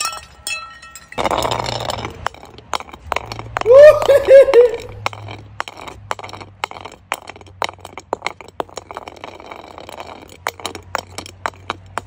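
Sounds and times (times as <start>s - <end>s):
glass jar rolling on asphalt: 0.0s - 12.0s.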